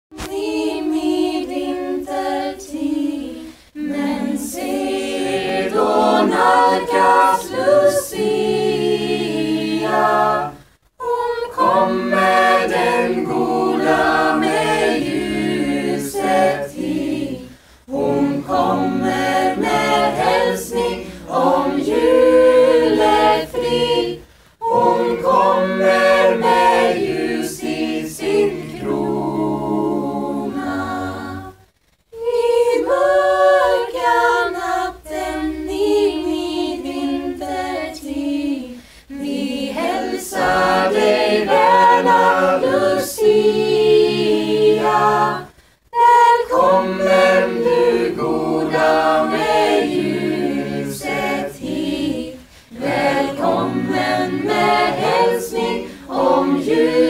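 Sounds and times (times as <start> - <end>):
choir of young voices singing: 0.1 - 57.0.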